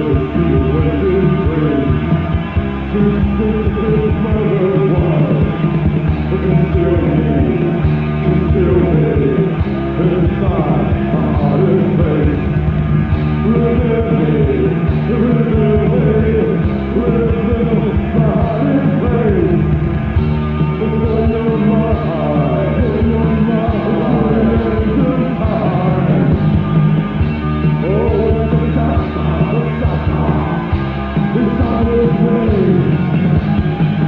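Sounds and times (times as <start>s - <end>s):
muffled goth rock song: 0.0s - 34.0s.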